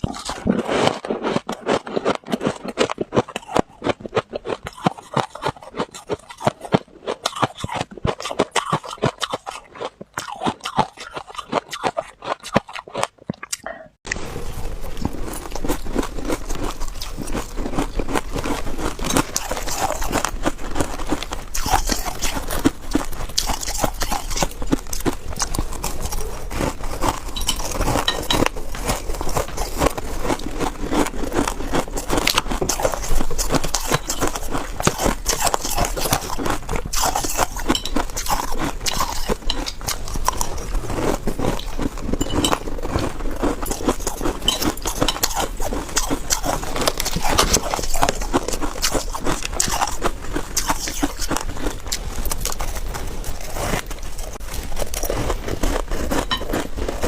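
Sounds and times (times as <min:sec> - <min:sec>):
frost crunching between teeth: 0:00.0 - 0:57.0.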